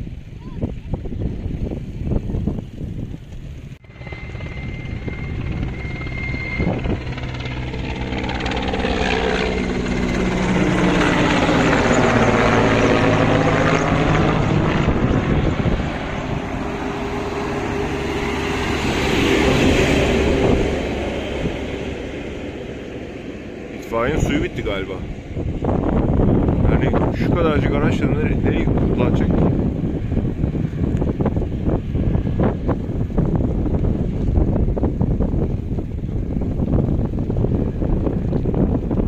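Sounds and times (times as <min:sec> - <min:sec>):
helicopter rotor and engine: 0:00.0 - 0:39.0.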